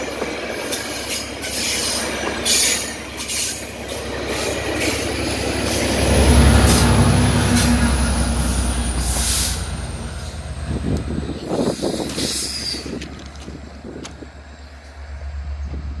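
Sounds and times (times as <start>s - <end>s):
diesel train rumble: 0.0s - 16.0s
rail joint clicks: 0.0s - 16.0s.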